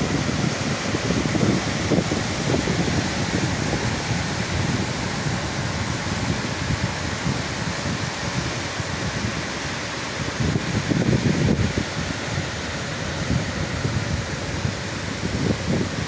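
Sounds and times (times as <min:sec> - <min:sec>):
heavy rain: 0:00.0 - 0:16.0
wind buffeting microphone: 0:00.0 - 0:16.0.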